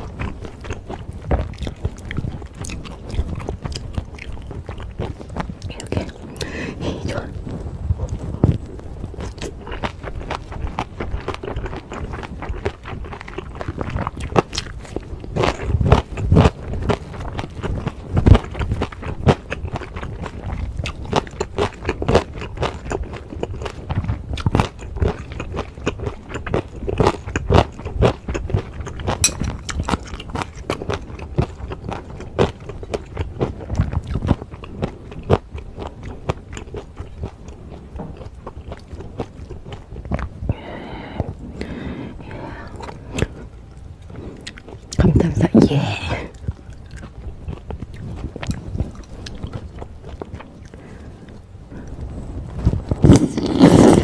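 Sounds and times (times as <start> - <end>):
crunchy wet chewing: 0.0 - 54.0.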